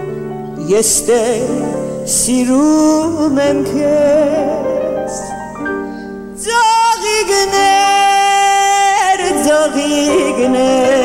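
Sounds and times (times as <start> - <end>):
woman singing: 0.6 - 5.3, 6.4 - 11.0.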